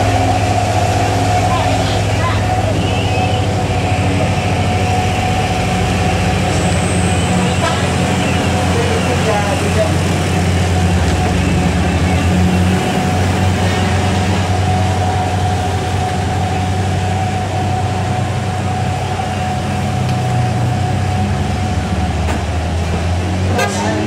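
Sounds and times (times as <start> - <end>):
steady whine: 0.0 - 23.9
heavy truck engine under load: 0.0 - 24.0
road traffic noise: 0.0 - 24.0.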